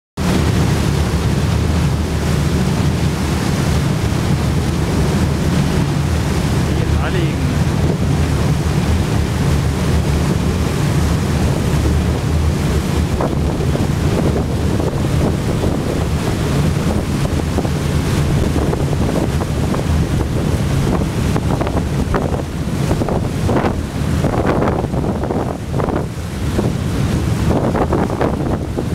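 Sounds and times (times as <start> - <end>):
sea water rushing along hull: 0.2 - 28.9
ship engine drone: 0.2 - 28.9
wind buffeting microphone: 0.2 - 28.9.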